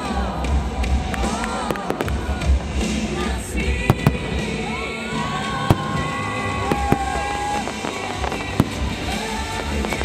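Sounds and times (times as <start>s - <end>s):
rumble of firework bursts: 0.0s - 10.0s
firework shells bursting: 1.1s - 10.0s.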